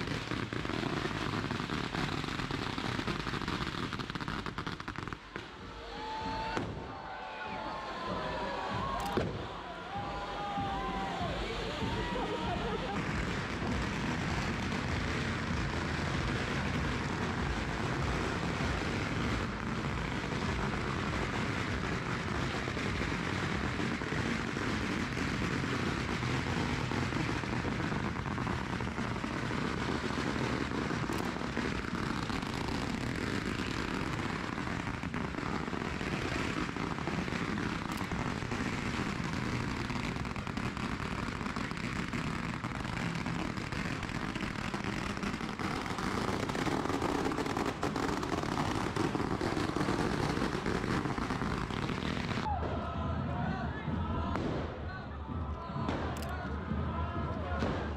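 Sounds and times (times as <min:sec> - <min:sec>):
dense crowd din: 0:05.0 - 0:57.9.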